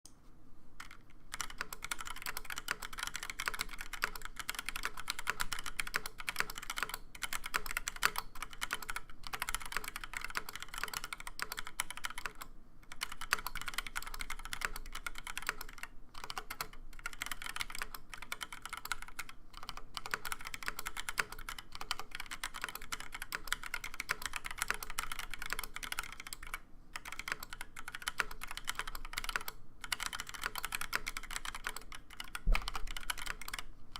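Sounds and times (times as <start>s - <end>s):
mechanical keyboard typing: 0.8s - 33.7s.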